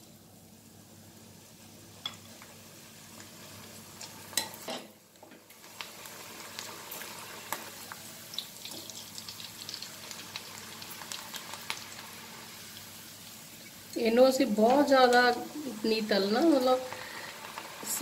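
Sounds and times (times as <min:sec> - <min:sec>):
lentils sizzling in hot oil: 0:00.0 - 0:18.0.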